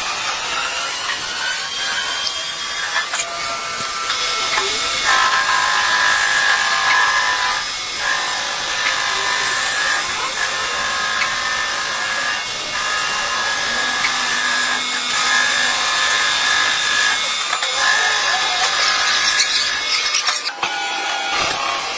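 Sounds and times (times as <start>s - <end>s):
lathe cutting workpiece: 0.0s - 21.9s.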